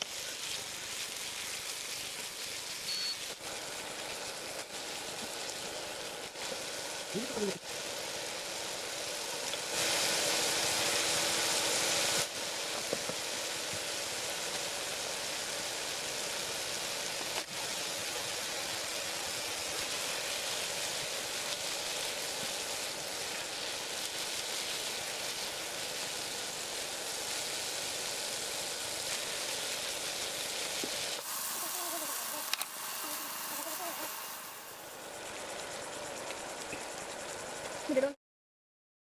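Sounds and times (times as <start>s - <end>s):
food frying in hot oil: 0.0s - 38.2s.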